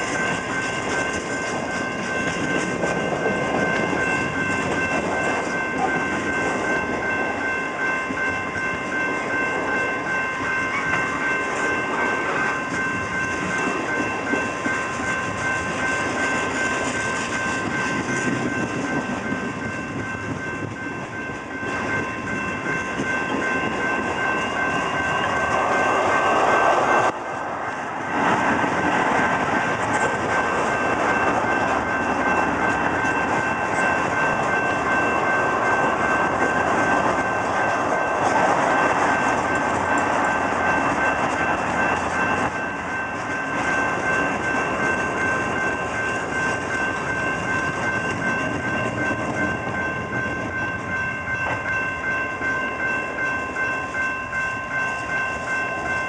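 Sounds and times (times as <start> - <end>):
high-pitched ring: 0.0 - 27.8, 29.6 - 56.0
train wheels rumbling on rails: 0.0 - 56.0.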